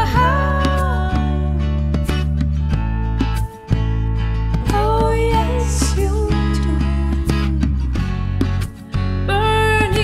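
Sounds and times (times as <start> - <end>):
strummed acoustic guitar chords: 0.0 - 10.0.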